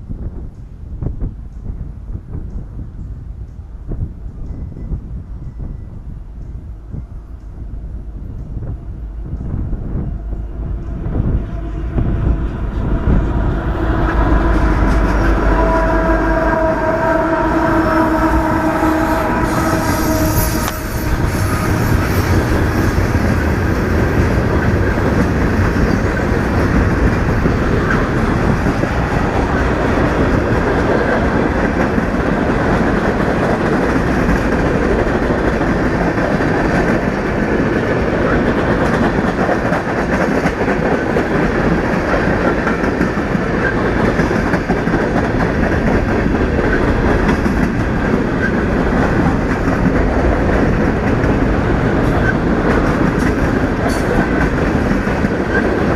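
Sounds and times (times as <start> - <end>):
freight train rumbling past: 0.0 - 55.9
train wheels clickety-clack: 0.0 - 55.9.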